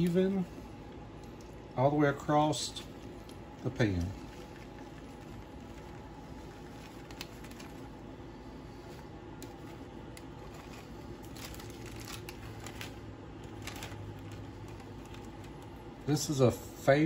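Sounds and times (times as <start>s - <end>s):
plastic bag crinkling: 0.0s - 16.3s
faint steady hum: 0.0s - 17.0s.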